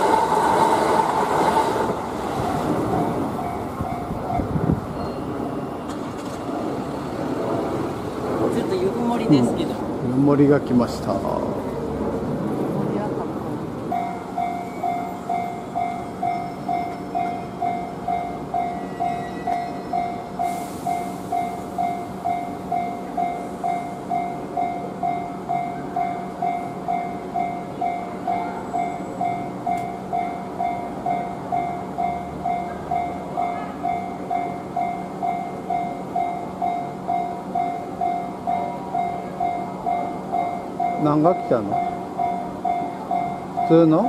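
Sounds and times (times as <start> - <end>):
train running noise: 0.0 - 44.0.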